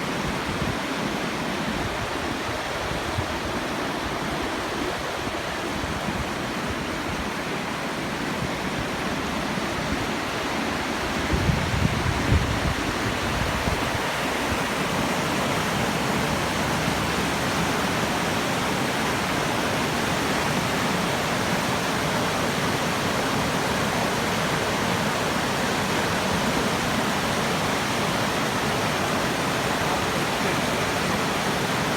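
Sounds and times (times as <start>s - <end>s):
stream rushing water: 0.0s - 31.9s.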